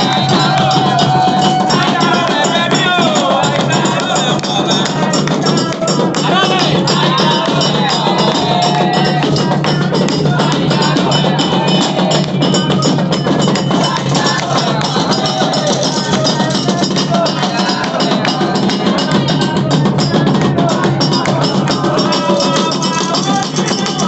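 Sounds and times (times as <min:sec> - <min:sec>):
fast drum percussion music: 0:00.0 - 0:24.0.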